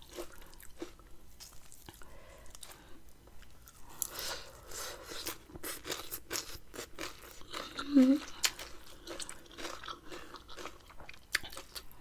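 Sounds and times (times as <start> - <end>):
close chewing and biting: 0.0 - 12.0.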